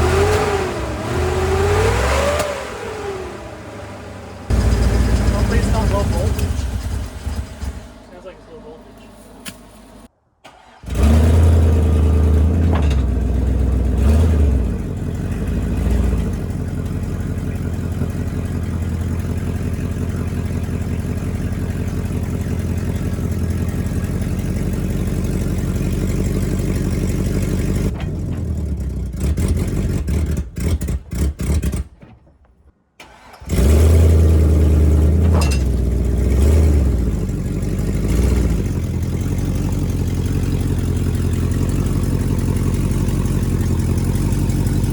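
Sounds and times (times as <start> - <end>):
truck engine starting and revving: 0.0 - 32.1, 33.0 - 44.9.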